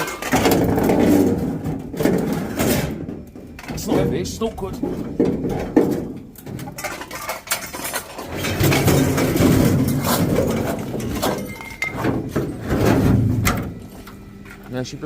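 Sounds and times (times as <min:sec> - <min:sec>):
heavy item scraping and rumbling: 0:00.0 - 0:14.0
metal scrap knocking and clanking: 0:00.0 - 0:14.2.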